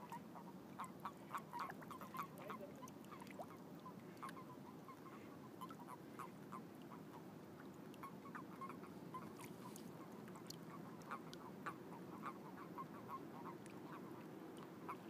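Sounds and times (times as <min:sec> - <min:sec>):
steady low background noise: 0:00.0 - 0:15.0.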